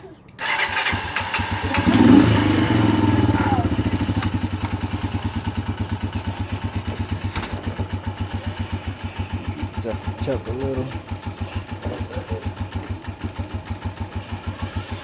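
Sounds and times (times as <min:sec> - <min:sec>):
dirt bike engine revving and idling: 0:00.4 - 0:15.0.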